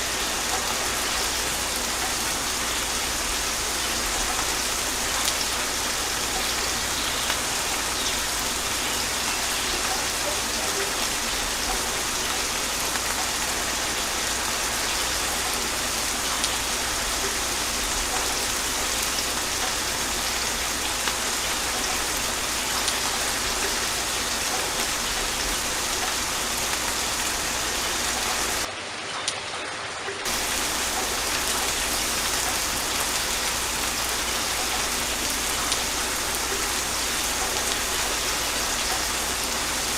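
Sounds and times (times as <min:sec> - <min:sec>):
sharp raindrops landing: 0:00.0 - 0:29.5, 0:30.2 - 0:39.9
gentle rain falling: 0:00.0 - 0:39.9.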